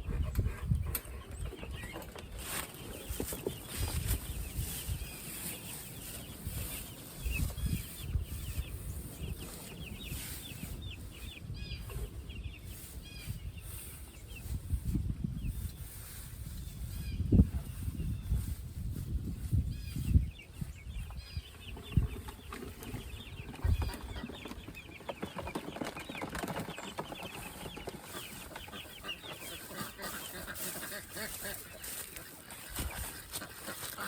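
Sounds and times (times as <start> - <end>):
chicks peeping: 0.0 - 34.0.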